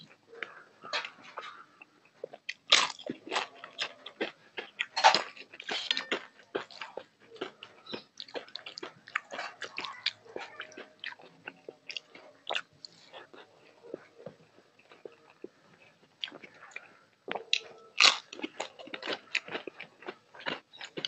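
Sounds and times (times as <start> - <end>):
crunchy chewing: 0.0 - 21.0.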